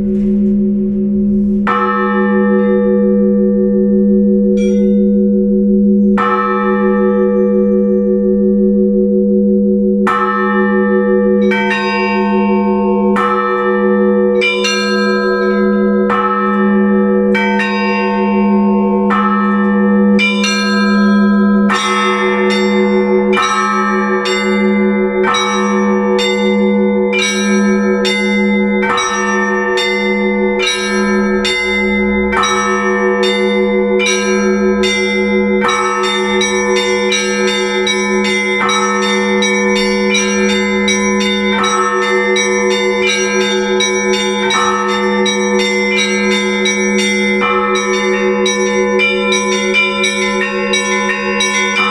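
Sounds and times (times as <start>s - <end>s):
large bell low tone: 0.0s - 51.9s
smaller bells struck rhythmically: 0.0s - 51.9s.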